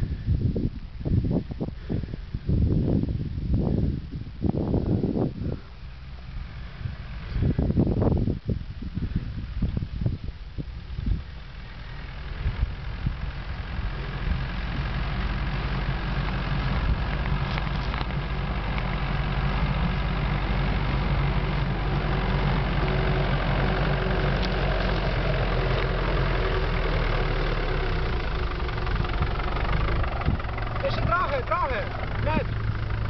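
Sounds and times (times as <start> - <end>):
car engine driving slowly: 0.0 - 33.0.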